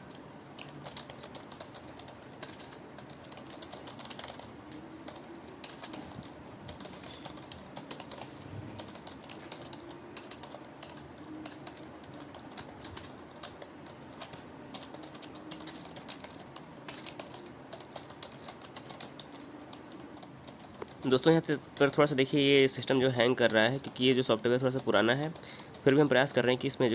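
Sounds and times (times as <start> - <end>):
computer keyboard typing: 0.0 - 26.1.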